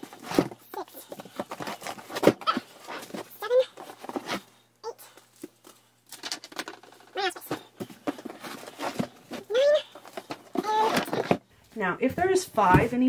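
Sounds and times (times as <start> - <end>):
knocks of handled packs: 0.0 - 4.5, 5.1 - 13.0.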